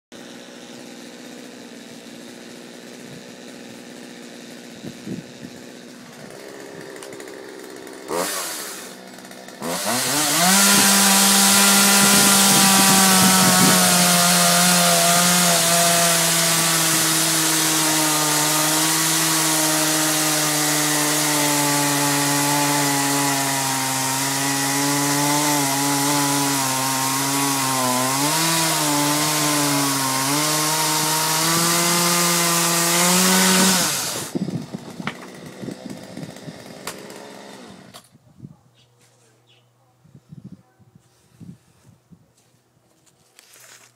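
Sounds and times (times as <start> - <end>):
chainsaw cutting log: 0.1 - 38.2.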